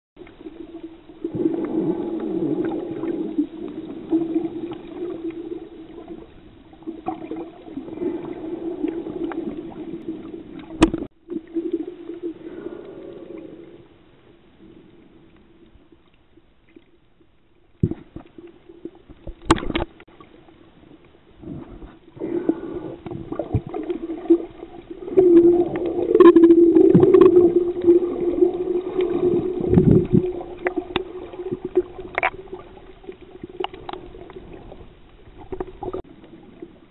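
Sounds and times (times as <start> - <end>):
gurgling water: 0.2 - 36.9
underwater hum: 0.2 - 36.9.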